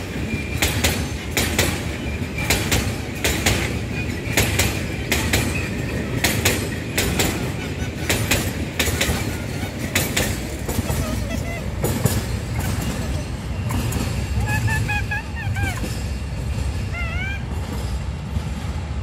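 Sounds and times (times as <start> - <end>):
wheels clicking over rail joints: 0.0 - 18.6
train wheels rumbling on rails: 0.0 - 19.0.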